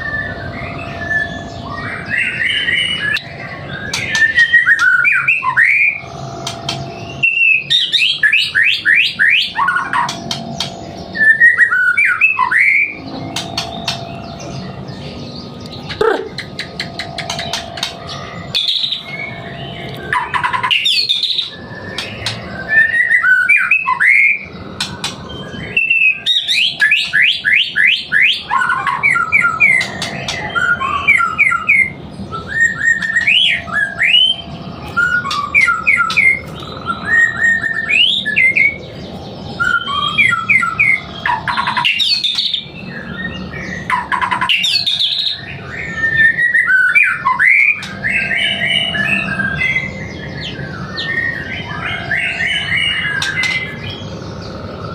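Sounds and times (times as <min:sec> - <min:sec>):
bird singing whistled phrases: 0:00.0 - 0:14.8, 0:16.6 - 0:38.9, 0:39.5 - 0:54.0.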